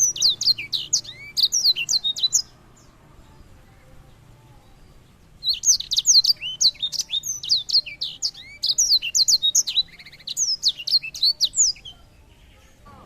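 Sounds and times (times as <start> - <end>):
buzzy bird trill: 0.0 - 13.0
songbird singing whistled notes: 0.0 - 13.0.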